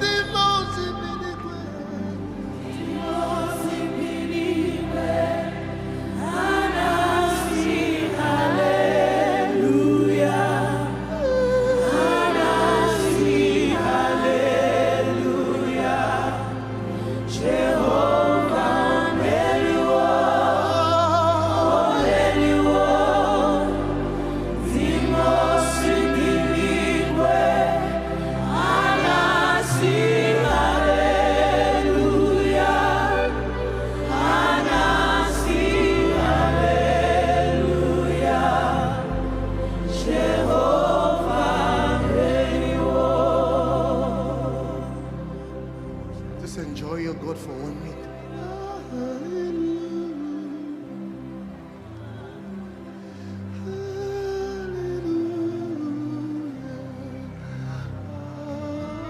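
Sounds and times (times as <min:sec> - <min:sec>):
choir and congregation singing: 0:00.0 - 0:59.0
keyboard and bass chords: 0:00.0 - 0:59.0.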